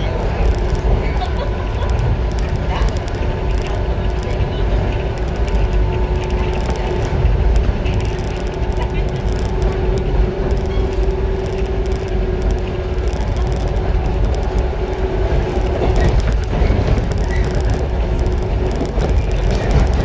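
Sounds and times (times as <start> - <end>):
faint rail clicks: 0.0 - 20.0
wheels rumbling on rail: 0.0 - 20.0.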